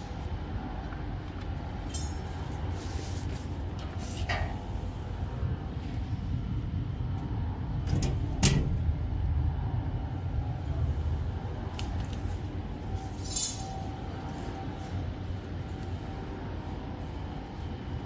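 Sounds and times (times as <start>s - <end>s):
machine low rumble: 0.0s - 18.0s.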